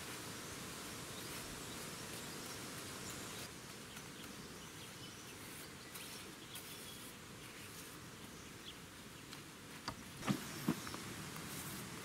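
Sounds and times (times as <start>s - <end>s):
faint background hiss: 0.0s - 12.0s
insects: 0.0s - 12.0s.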